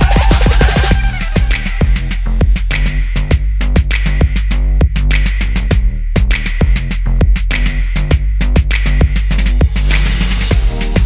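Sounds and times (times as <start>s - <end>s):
music with fast drum beat and bass: 0.0s - 11.0s.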